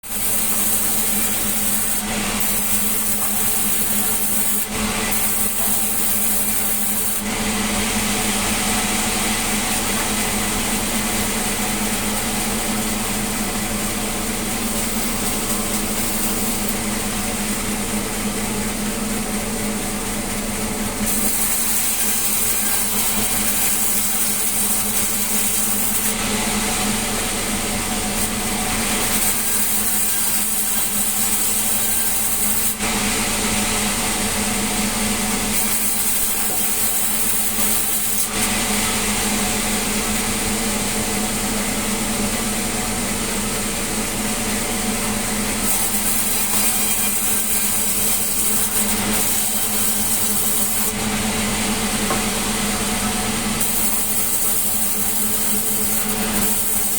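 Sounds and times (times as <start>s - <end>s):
sawmill saw cutting wood: 0.0s - 17.3s, 21.0s - 41.2s, 45.4s - 56.9s.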